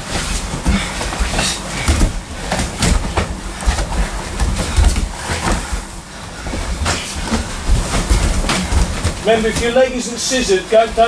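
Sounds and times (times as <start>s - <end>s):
bodies thudding on mats: 0.0s - 10.0s
scuffling: 0.0s - 11.0s.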